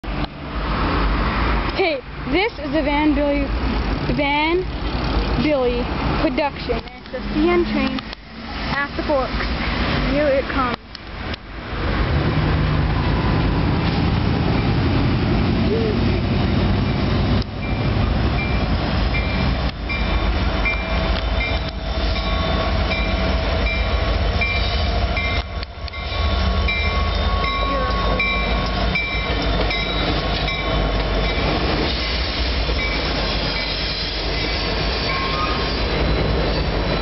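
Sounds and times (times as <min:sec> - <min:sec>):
freight train rumbling past: 0:00.0 - 0:37.0.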